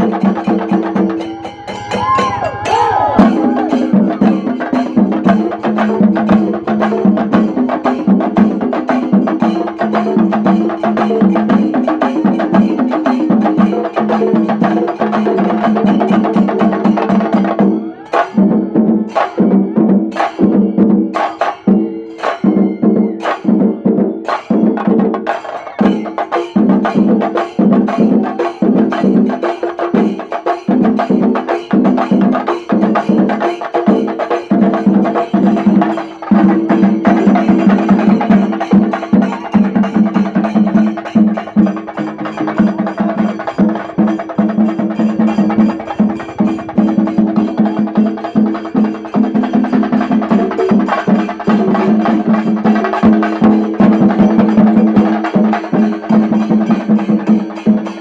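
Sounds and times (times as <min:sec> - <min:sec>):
cymbals: 0:00.0 - 0:58.0
massed drums rolling: 0:00.0 - 0:58.0.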